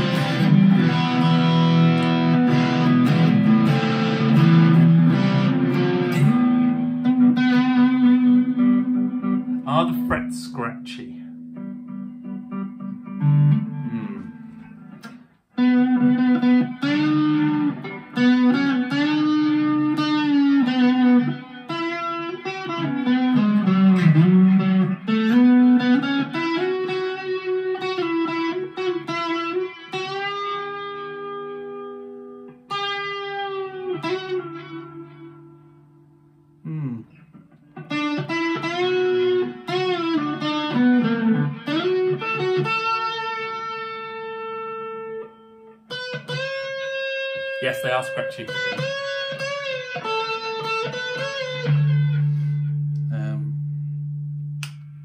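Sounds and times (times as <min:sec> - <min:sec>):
electric guitar lead line: 0:00.0 - 0:55.0.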